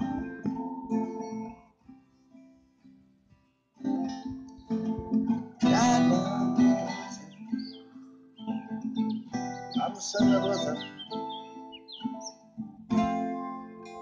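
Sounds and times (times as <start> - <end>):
twelve-string guitar strumming: 0.0 - 14.0.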